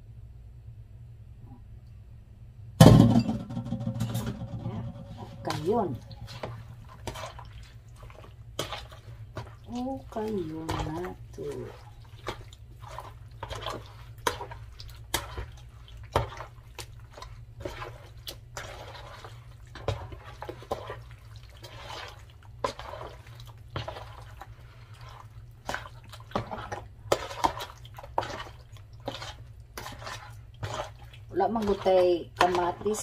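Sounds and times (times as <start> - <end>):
hands squishing wet chicken: 5.4 - 33.0.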